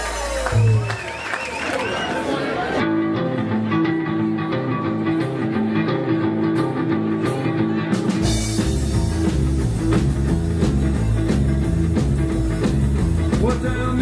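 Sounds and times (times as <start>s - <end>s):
guitar: 1.9s - 14.0s
rock band music: 2.0s - 14.0s.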